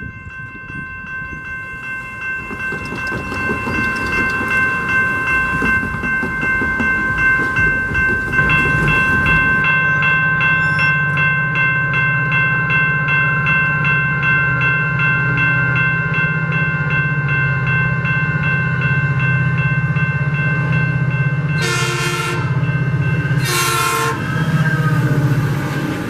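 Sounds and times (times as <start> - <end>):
passing train rumbling: 0.0 - 26.0
railroad crossing bell ringing: 0.0 - 26.0.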